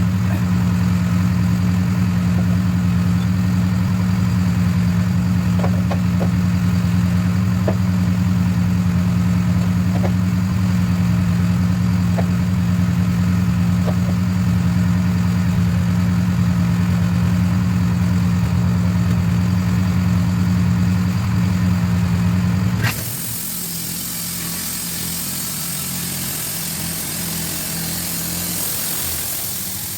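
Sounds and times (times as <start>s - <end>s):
engine running with low hum: 0.0s - 29.9s.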